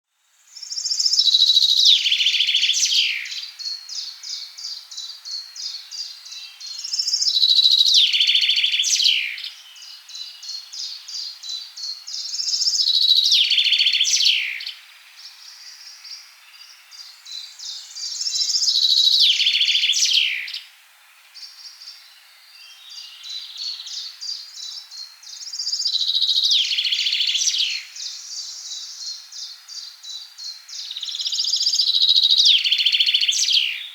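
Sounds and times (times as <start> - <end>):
songbird singing phrases: 0.2 - 33.9.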